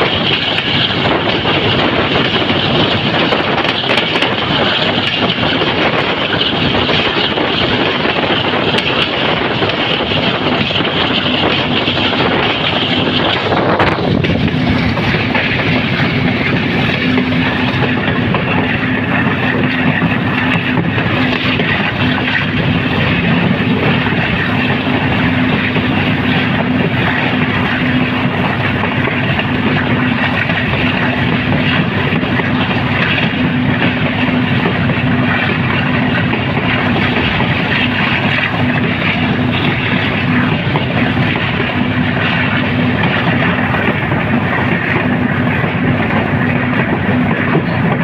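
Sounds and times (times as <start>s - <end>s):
low hum: 0.0s - 48.0s
train wheels on rail: 0.0s - 48.0s.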